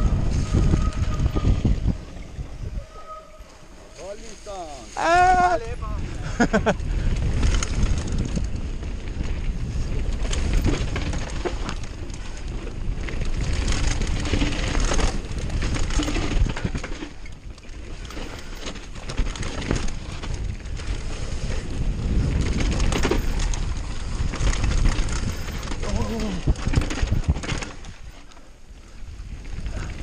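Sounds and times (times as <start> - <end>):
tyre noise on dirt: 0.0 - 30.0
wind buffeting microphone: 0.0 - 30.0
bike rattling and knocking: 5.0 - 30.0.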